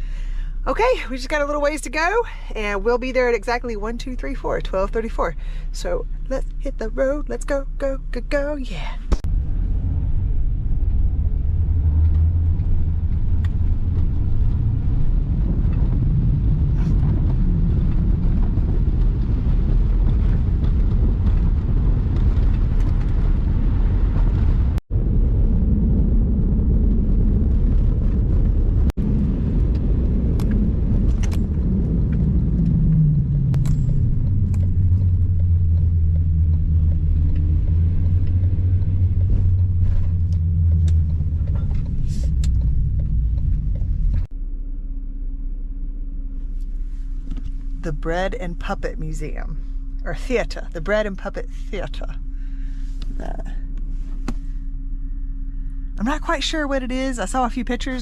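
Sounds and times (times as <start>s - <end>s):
van engine and road noise: 0.0s - 58.0s.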